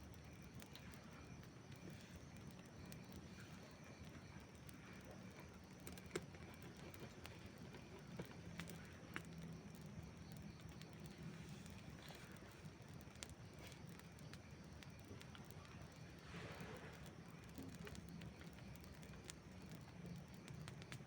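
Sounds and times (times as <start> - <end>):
campfire low hiss: 0.0 - 21.0
crackling wood pops: 0.0 - 21.0.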